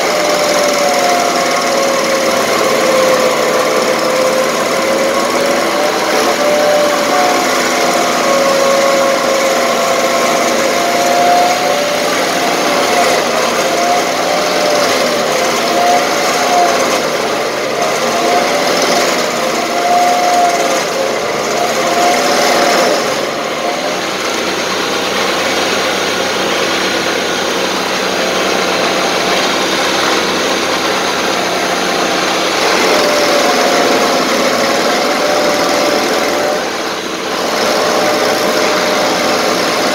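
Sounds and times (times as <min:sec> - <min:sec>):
stump grinder grinding wood: 0:00.0 - 0:39.9.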